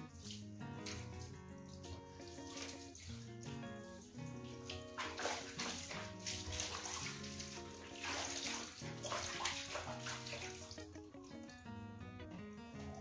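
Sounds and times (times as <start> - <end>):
background music: 0.0 - 13.0
water splashing in plastic basin: 0.1 - 11.0.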